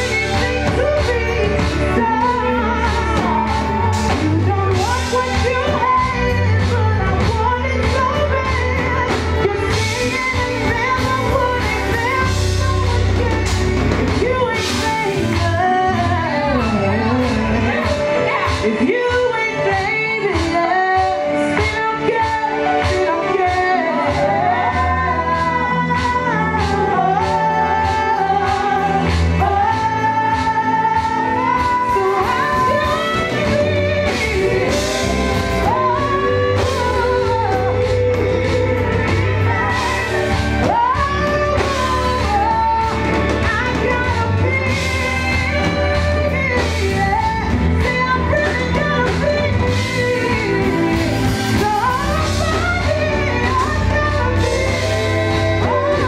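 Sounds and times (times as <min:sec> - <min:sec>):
live band playing: 0:00.0 - 0:56.0
people singing: 0:00.0 - 0:56.0.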